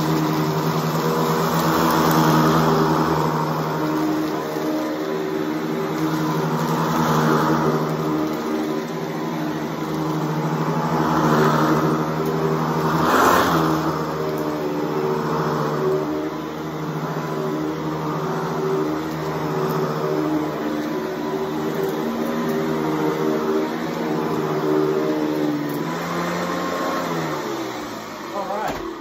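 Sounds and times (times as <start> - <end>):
upright vacuum running on carpet: 0.0 - 29.0.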